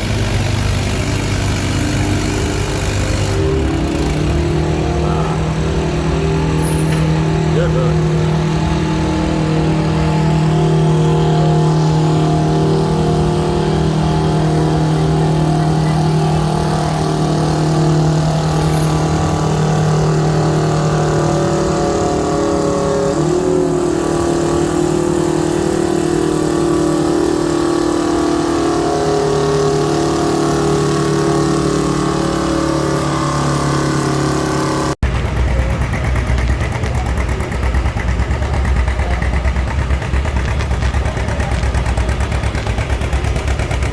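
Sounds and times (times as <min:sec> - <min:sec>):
rough engine running: 0:00.0 - 0:43.9
tractor engine under load: 0:00.0 - 0:43.9.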